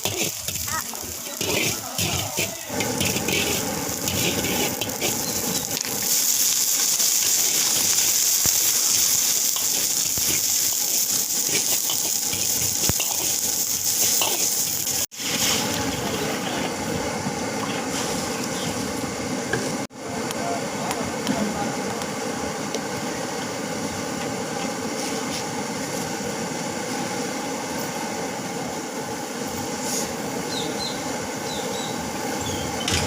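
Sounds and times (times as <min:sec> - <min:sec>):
food sizzling in hot oil: 0:00.0 - 0:19.9, 0:21.7 - 0:33.0.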